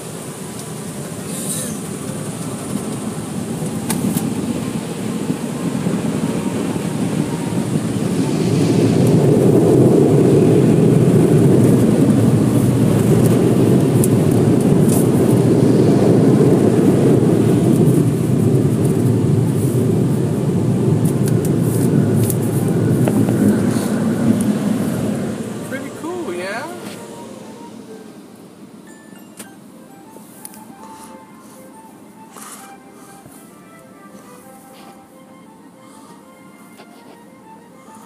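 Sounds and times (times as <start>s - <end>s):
car wash machinery rumble: 0.0s - 38.0s.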